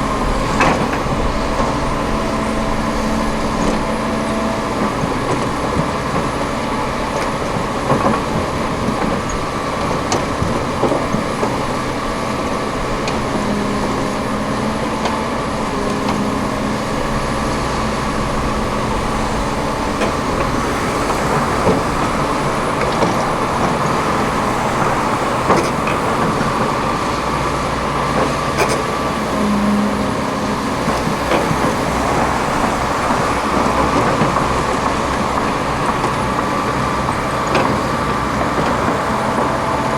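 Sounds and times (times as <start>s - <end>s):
diesel engines under load: 0.0s - 39.9s.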